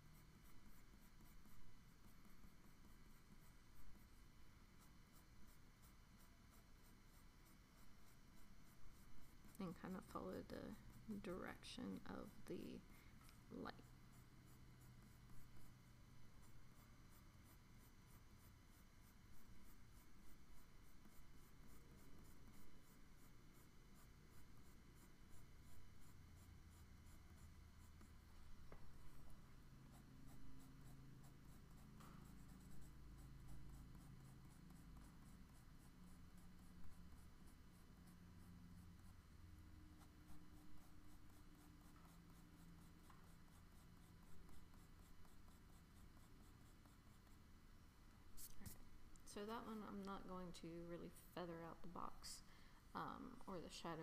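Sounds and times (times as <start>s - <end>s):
pencil scratching on paper: 0.0s - 47.6s.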